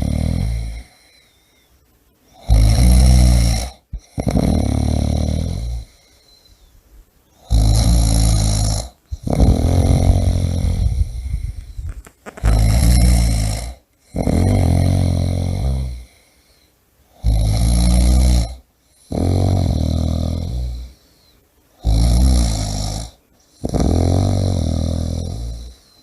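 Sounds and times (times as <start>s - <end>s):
person snoring loudly: 0.0s - 1.1s, 2.3s - 6.0s, 7.4s - 16.2s, 17.1s - 21.0s, 21.8s - 26.0s.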